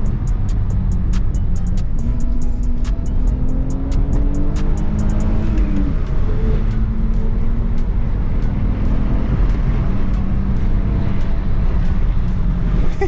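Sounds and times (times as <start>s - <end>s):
car engine while driving: 0.0s - 13.0s
road rumble: 0.0s - 13.0s.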